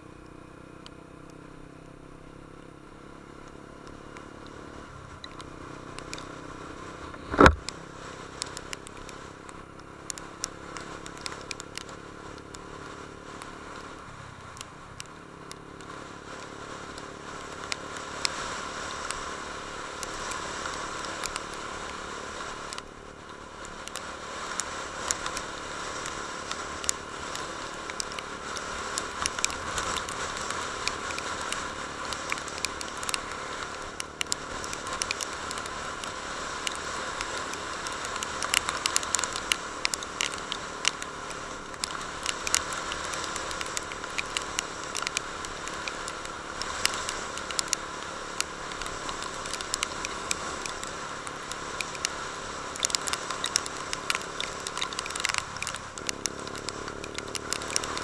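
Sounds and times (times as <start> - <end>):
motorcycle engine: 0.0 - 58.0
sharp crackles and taps: 0.2 - 58.0.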